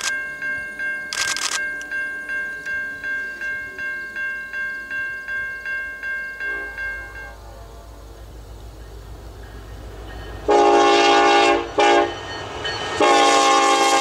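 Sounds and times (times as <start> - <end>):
crossing bell ringing: 0.0 - 14.0
diesel train rumble: 0.0 - 14.0.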